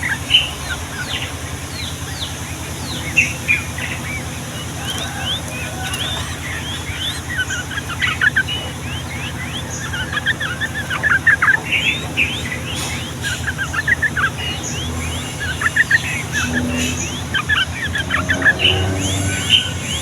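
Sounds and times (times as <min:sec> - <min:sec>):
bird chattering song: 0:00.0 - 0:20.0
steady low hum: 0:00.0 - 0:20.0.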